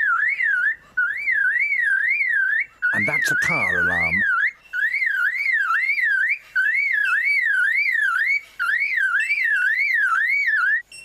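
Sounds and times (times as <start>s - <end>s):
bird imitating a car alarm: 0.0s - 10.8s.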